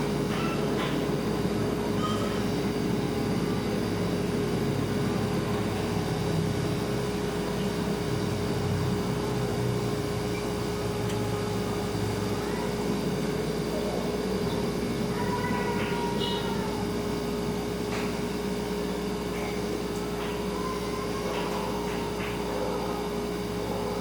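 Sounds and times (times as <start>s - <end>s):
refrigerator humming: 0.0s - 24.0s.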